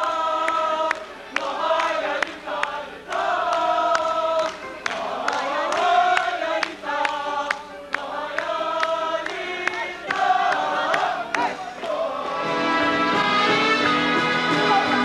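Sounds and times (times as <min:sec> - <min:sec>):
group singing in chorus: 0:00.0 - 0:15.0.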